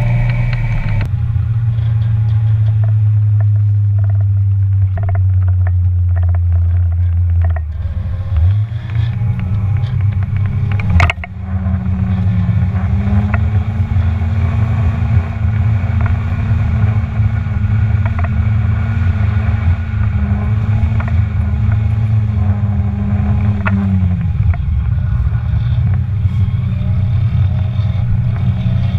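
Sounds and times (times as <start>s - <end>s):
car engine and exhaust: 0.0s - 28.9s.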